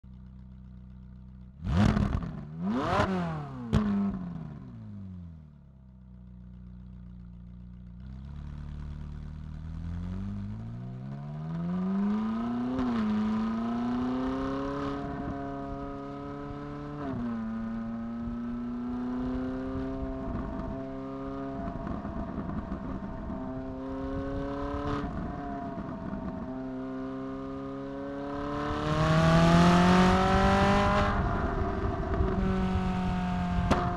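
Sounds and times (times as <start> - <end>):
sports car engine revving: 1.4 - 5.1, 8.0 - 33.9.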